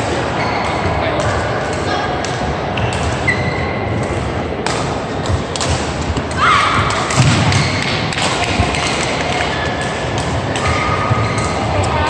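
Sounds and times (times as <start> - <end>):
racket hitting shuttlecock: 0.6 - 11.7.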